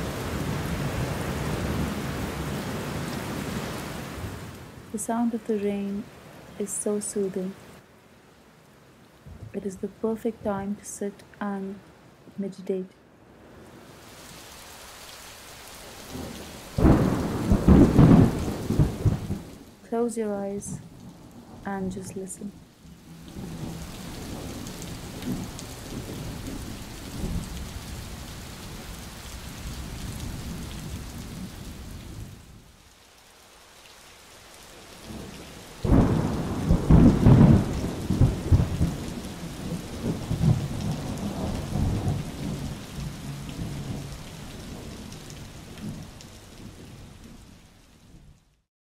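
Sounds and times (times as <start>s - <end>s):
heavy rain on tiles: 0.0s - 12.4s, 13.0s - 48.7s.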